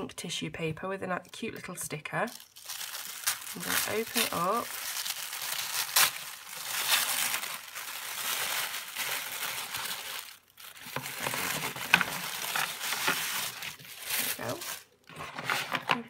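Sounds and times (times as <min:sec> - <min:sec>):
tissue paper rustling: 0:02.3 - 0:16.0.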